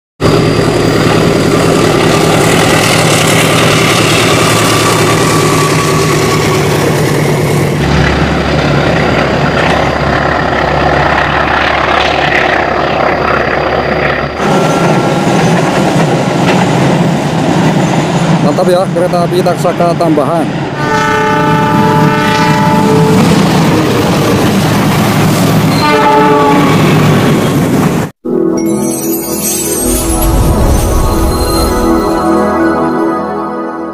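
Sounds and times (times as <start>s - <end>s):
diesel locomotive engines running: 0.2s - 28.1s.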